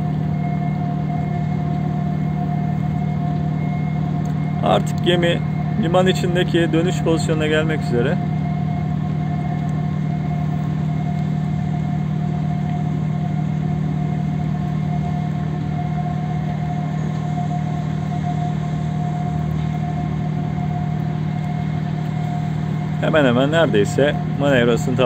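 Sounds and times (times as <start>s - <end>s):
large engine humming: 0.0s - 25.0s
thin steady whine: 0.0s - 25.0s.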